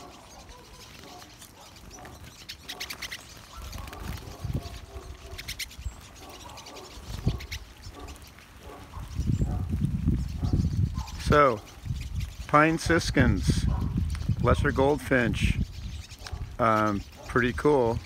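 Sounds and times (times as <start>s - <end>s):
small birds twittering: 0.0s - 18.0s.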